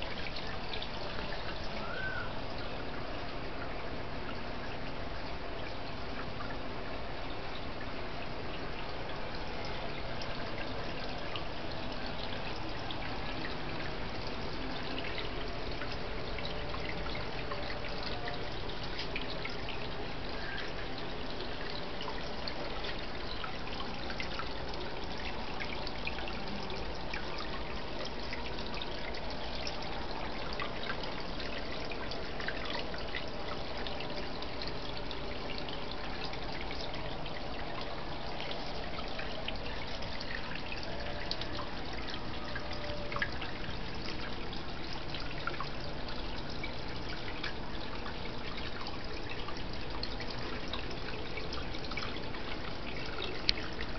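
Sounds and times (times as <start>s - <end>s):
water drips and splashes: 0.0s - 53.9s
water trickling into a pond: 0.0s - 53.9s.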